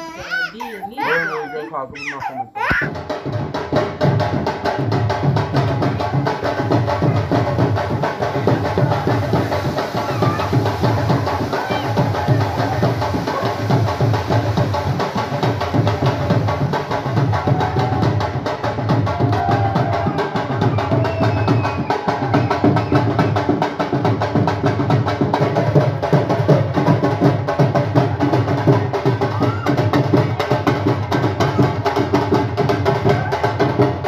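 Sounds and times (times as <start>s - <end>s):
fast drum and percussion beat: 0.0s - 34.0s.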